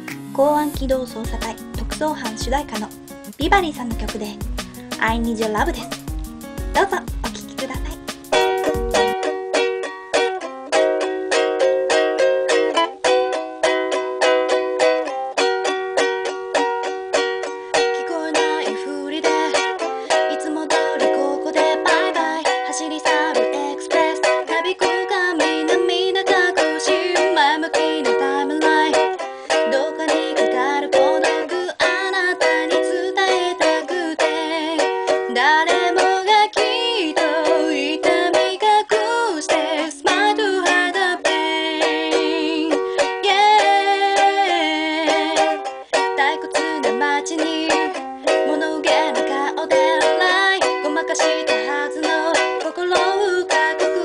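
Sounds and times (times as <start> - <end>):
person singing: 0.0 - 9.2, 17.8 - 54.0
ukulele strumming: 0.0 - 54.0.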